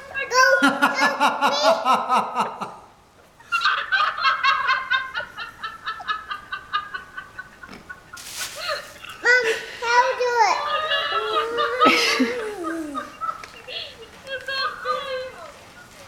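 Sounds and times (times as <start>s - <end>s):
high-pitched laughter: 0.3s - 2.7s, 3.5s - 15.4s.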